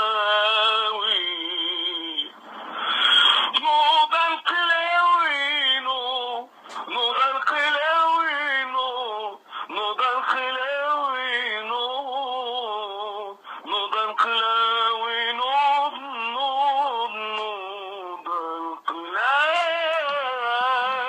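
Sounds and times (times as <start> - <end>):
person singing with vibrato: 0.0 - 2.4, 3.0 - 21.0.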